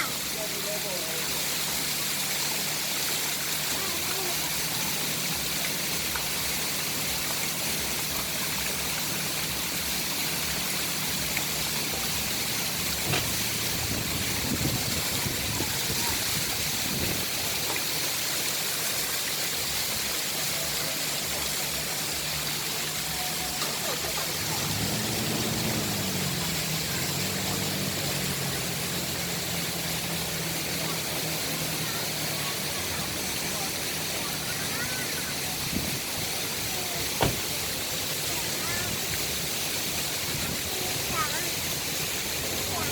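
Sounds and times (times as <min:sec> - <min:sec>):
river rushing below waterfall: 0:00.0 - 0:42.9.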